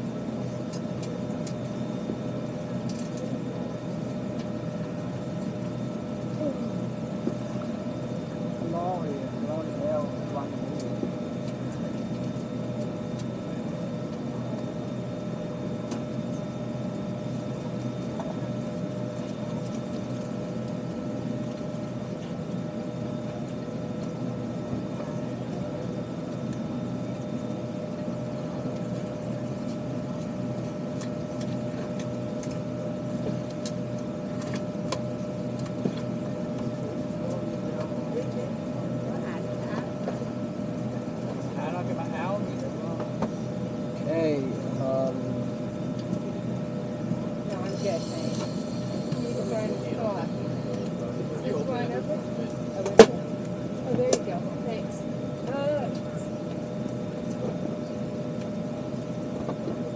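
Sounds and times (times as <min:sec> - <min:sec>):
air-conditioning airflow: 0:00.0 - 0:59.9
steady hum and whine: 0:00.0 - 0:59.9.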